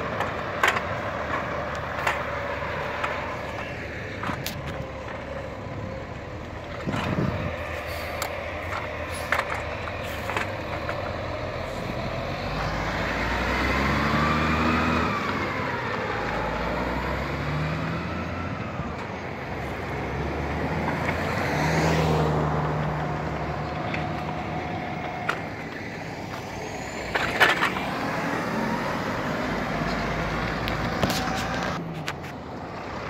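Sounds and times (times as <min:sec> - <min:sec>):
heavy diesel trucks engines: 0:00.0 - 0:33.0.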